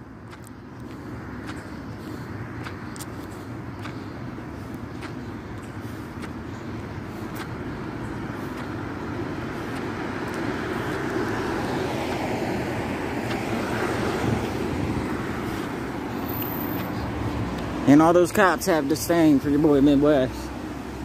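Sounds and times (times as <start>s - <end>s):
steady traffic noise: 0.0s - 21.0s.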